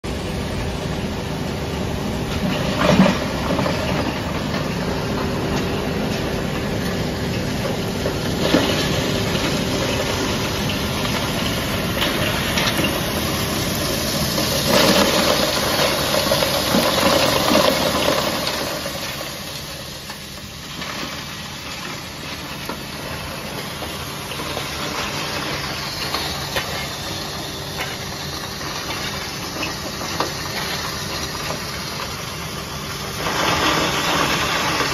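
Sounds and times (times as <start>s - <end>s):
crusher grinding charcoal: 0.0s - 34.9s.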